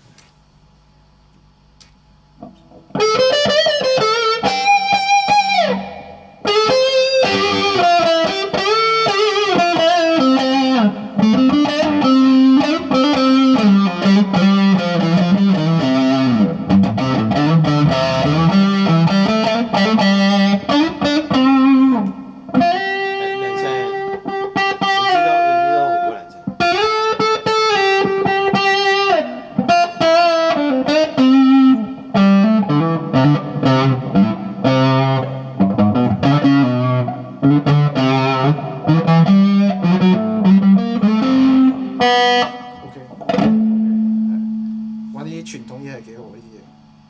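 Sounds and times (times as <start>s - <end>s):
electric guitar lead line: 2.3s - 47.0s.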